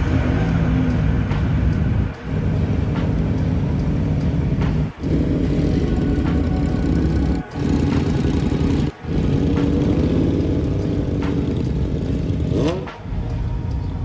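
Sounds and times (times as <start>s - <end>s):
car engine revving: 1.0s - 13.3s.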